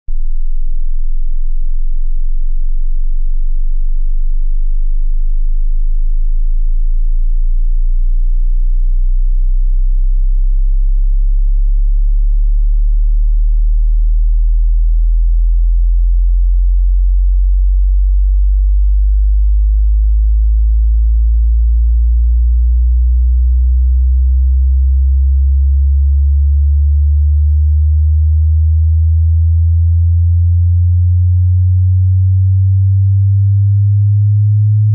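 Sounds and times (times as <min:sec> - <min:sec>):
rising low sine tone: 0:00.1 - 0:34.9.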